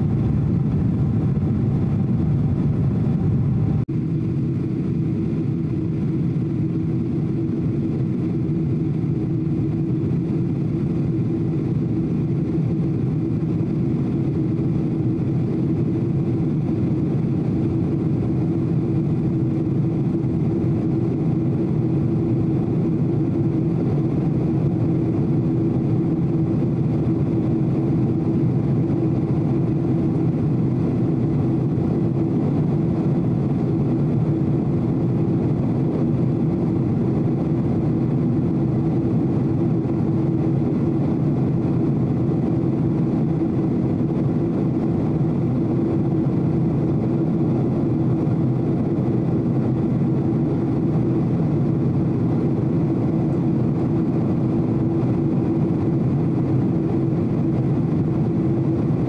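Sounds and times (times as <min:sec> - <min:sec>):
airliner engine drone: 0:00.0 - 0:59.0
constant low hum: 0:00.0 - 0:59.0.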